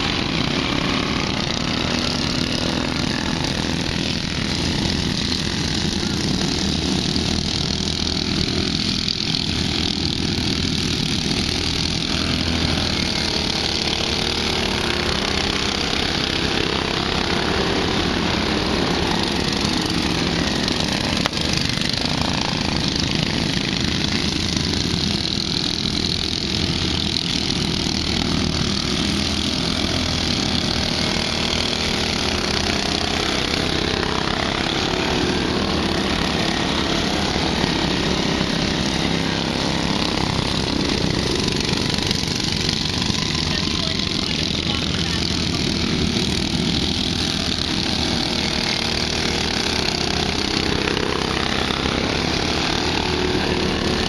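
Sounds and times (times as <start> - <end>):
lawn mower engines running: 0.0 - 54.0.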